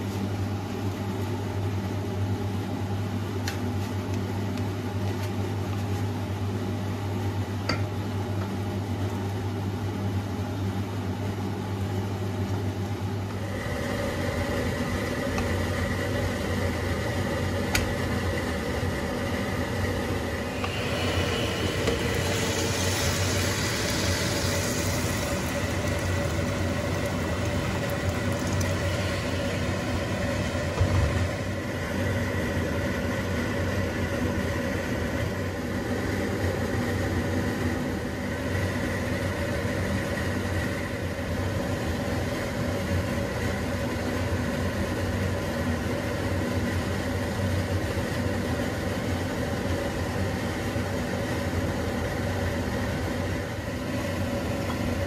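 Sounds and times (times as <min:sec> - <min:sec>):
low mechanical hum and rumble: 0:00.0 - 0:55.0.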